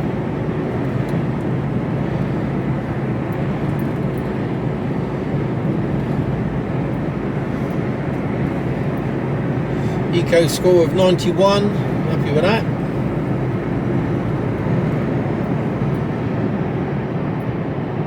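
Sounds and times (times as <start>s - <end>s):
road and wind noise: 0.0s - 18.0s
truck engine drone: 0.0s - 18.0s.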